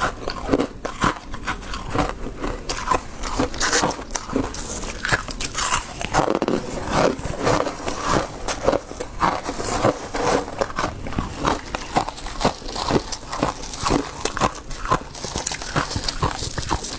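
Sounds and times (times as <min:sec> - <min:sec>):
frost being bitten and chewed: 0:00.0 - 0:16.9.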